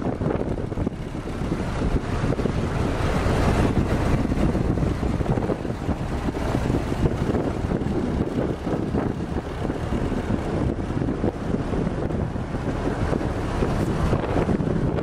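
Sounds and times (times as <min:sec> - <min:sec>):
car engine running: 0:00.0 - 0:15.0
wind on microphone: 0:00.0 - 0:15.0.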